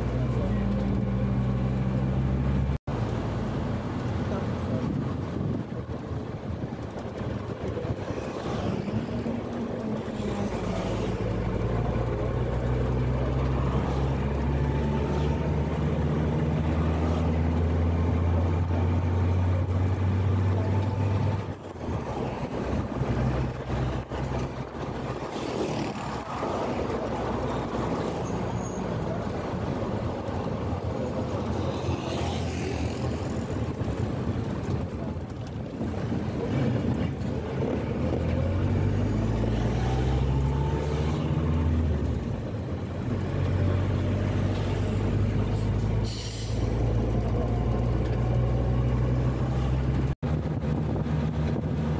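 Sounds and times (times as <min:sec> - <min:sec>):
road noise: 0:00.0 - 0:51.9
vehicle engine drone: 0:00.0 - 0:51.9.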